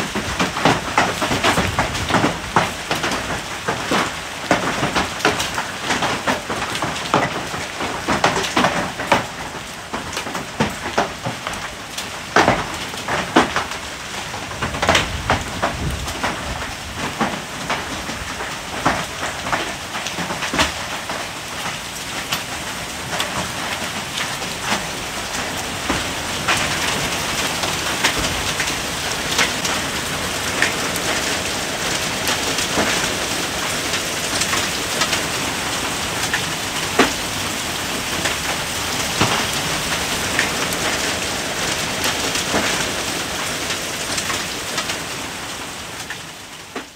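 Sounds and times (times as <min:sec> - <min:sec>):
hailstones knocking on paving: 0:00.0 - 0:46.9
heavy hail and rain hissing: 0:00.0 - 0:46.9.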